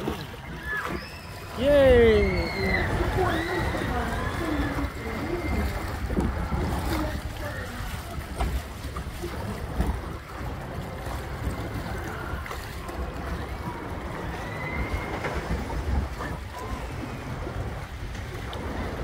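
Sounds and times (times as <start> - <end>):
rushing water: 0.0 - 19.0
wind rumbling on microphone: 0.0 - 19.0.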